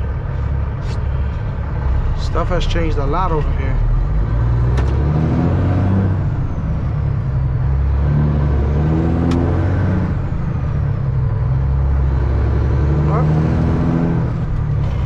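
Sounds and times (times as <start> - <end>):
truck diesel engine accelerating: 0.0 - 15.0.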